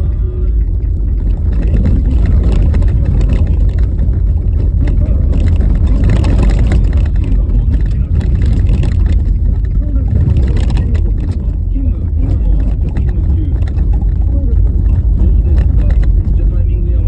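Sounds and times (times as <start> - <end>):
car rumbling on bumpy road: 0.0 - 17.0
knocks and rattles: 0.0 - 17.0.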